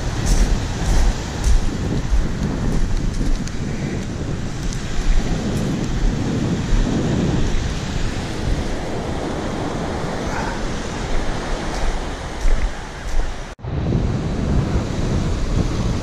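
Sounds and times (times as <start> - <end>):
surf on shingle beach: 0.0 - 16.0
wind buffeting microphone: 0.0 - 16.0.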